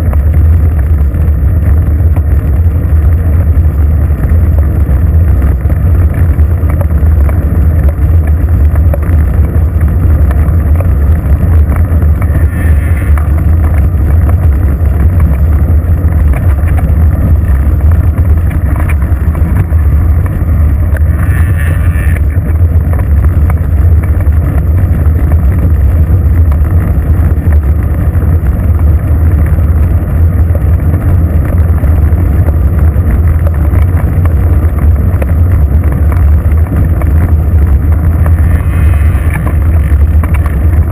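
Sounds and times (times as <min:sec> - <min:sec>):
tyre noise on asphalt: 0:00.0 - 0:40.9
wind buffeting microphone: 0:00.0 - 0:40.9.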